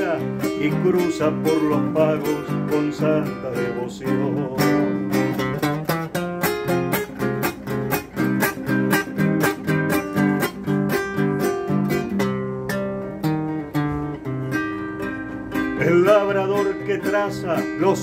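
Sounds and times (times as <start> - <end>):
fingerpicked classical guitar: 0.0 - 18.0.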